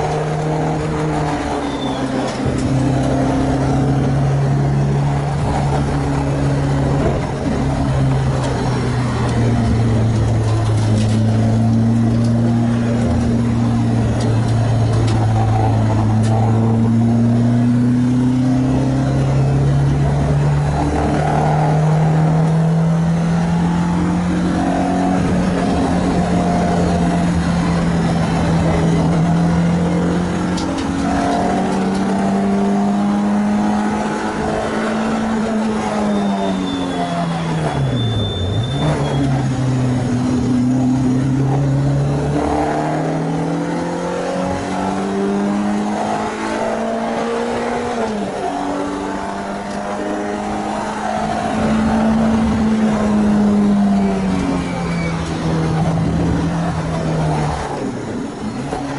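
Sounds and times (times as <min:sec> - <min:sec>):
car engine running under load: 0:00.0 - 0:58.9.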